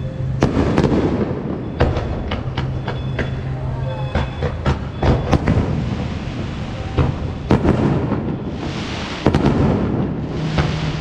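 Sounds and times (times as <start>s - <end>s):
fireworks bangs: 0.2s - 3.4s, 4.2s - 11.0s
hissing crackle of fireworks: 0.2s - 3.4s, 4.5s - 11.0s.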